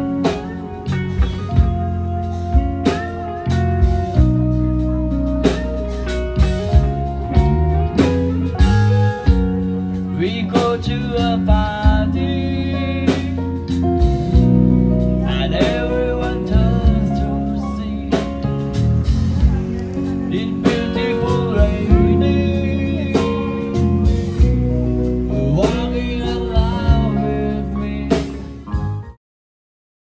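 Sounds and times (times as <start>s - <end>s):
drum kit beat: 0.0s - 29.2s
electric guitar playing: 0.0s - 29.2s.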